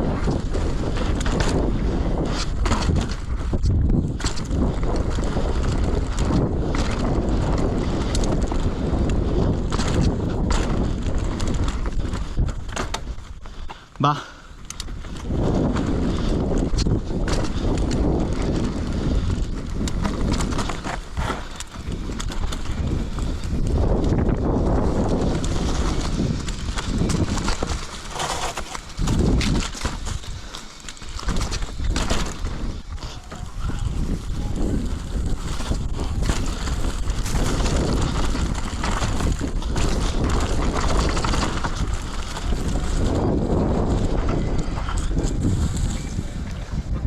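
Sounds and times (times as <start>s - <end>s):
bike clattering knocks and rattles: 0.0s - 47.0s
tyres rolling on rough ground: 0.0s - 47.0s
wind rumbling on microphone: 0.0s - 47.0s.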